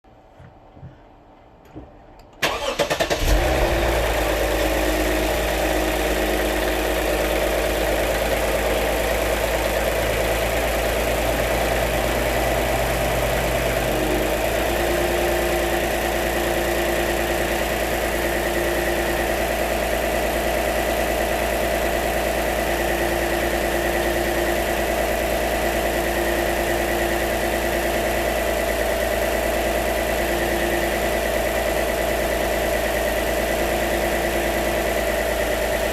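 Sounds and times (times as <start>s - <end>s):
car engine starting and idling: 2.2s - 35.9s.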